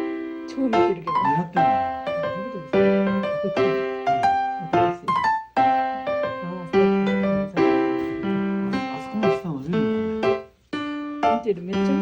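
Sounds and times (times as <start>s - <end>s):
piano notes and chords: 0.0s - 12.0s.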